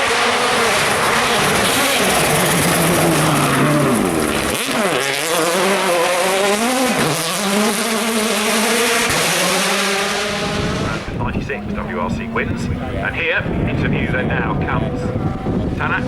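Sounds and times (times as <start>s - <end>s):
rally car engine running hard: 0.0s - 16.0s.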